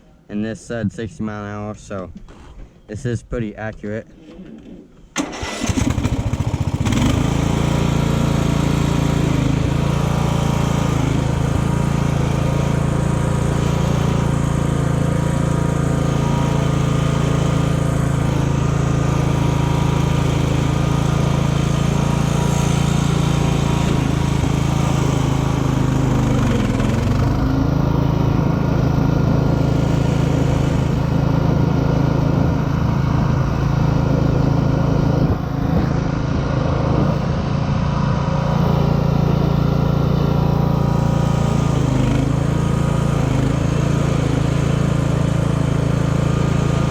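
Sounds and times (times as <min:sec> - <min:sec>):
riding mower engine running: 0:05.1 - 0:46.9.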